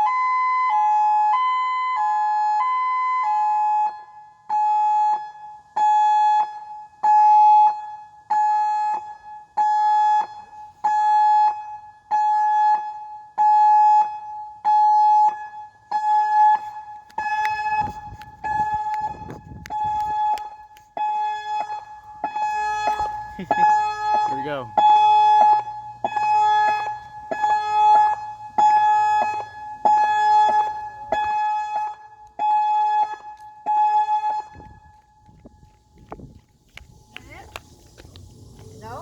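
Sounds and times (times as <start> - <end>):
electronic warning siren: 0.0 - 37.6.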